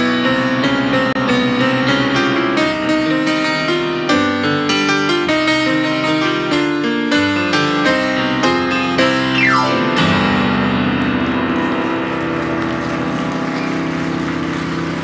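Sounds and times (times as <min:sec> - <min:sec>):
grand piano playing chords: 0:00.0 - 0:15.0.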